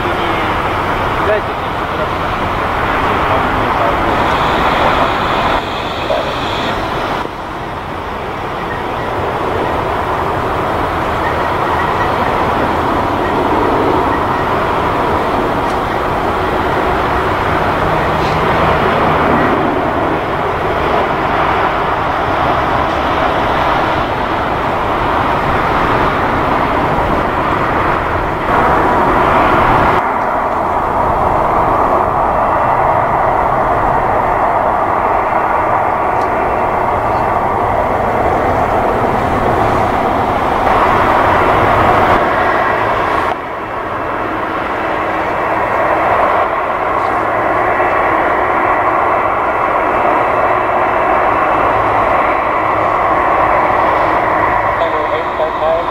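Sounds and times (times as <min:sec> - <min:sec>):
jet engines taxiing: 0:00.0 - 0:55.9.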